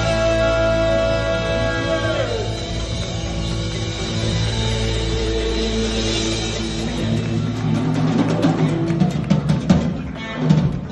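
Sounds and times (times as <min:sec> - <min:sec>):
bass guitar: 0:00.0 - 0:10.9
electric guitar: 0:00.0 - 0:10.9.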